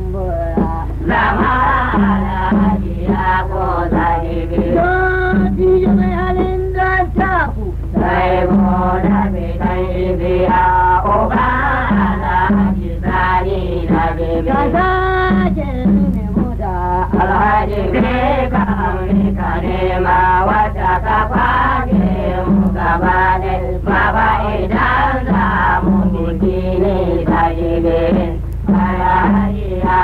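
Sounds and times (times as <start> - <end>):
low beat: 0.0 - 30.0
low hum: 0.0 - 30.0
man singing in chanting style: 0.0 - 30.0.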